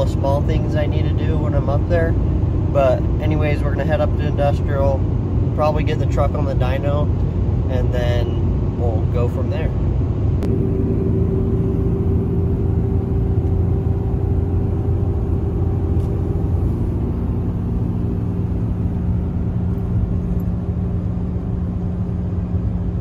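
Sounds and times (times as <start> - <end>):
truck engine and road noise: 0.0 - 23.0.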